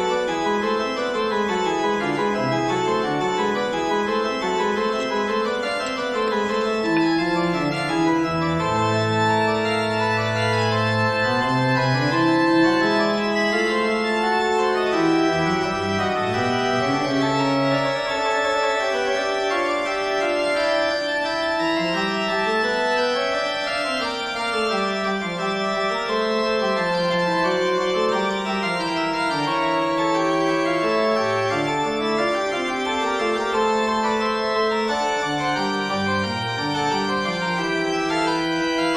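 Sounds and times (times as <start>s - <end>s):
organ chords: 0.0s - 38.9s.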